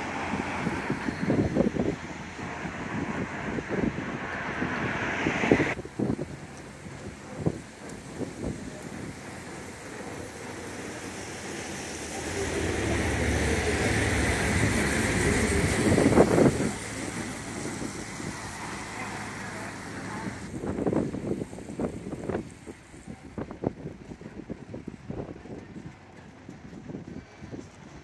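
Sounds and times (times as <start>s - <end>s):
bus engine passing by: 0.0s - 28.0s.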